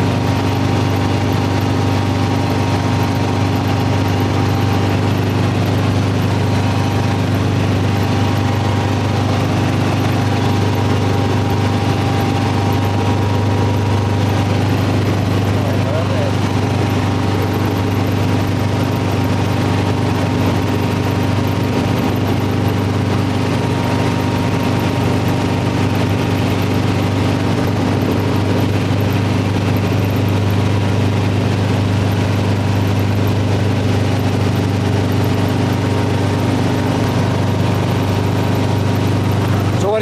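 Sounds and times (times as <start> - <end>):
helicopter engine and rotor drone: 0.0 - 40.0.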